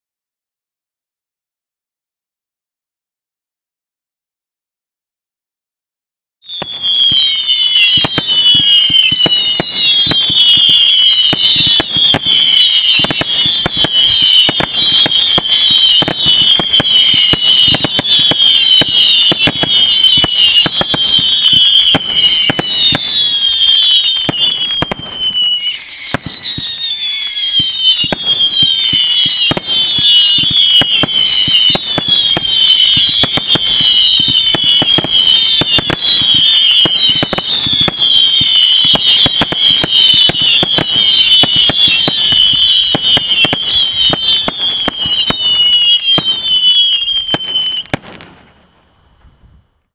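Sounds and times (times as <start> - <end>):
whistling fireworks: 6.4 - 49.9
firework shots and burst cracks: 6.5 - 49.4.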